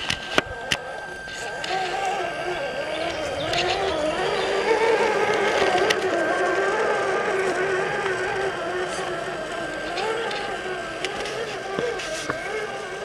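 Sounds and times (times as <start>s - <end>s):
electric motor and gear whine: 0.0s - 13.0s.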